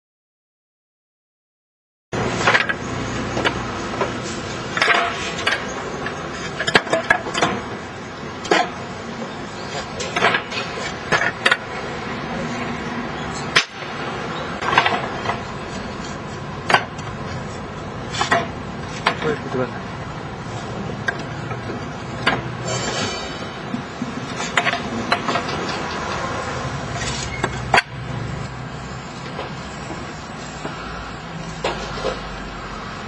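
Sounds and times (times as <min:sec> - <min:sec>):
steady background hum: 0:02.2 - 0:33.0.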